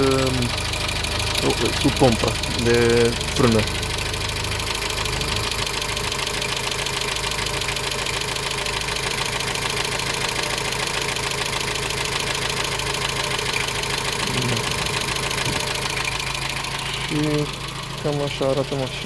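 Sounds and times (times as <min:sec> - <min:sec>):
car engine idling with knock: 0:00.0 - 0:19.0.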